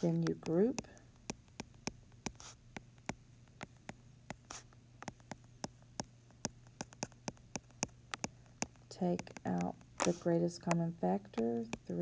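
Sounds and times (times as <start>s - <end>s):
faint low hum: 0.0s - 12.0s
stylus tapping on glass screen: 0.0s - 12.0s.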